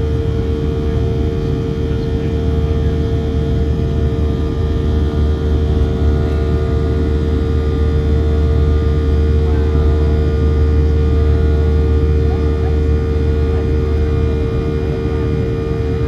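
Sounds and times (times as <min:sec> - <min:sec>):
airplane cabin engine rumble: 0:00.0 - 0:16.0
constant droning hum: 0:00.0 - 0:16.0.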